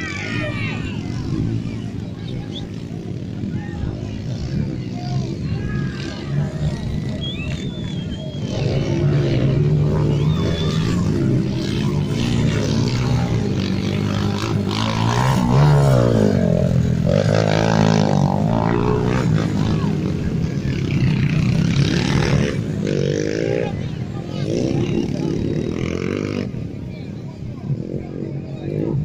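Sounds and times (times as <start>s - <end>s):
dirt bike passing close: 0.0s - 26.9s
dirt bike engines revving: 0.0s - 29.0s.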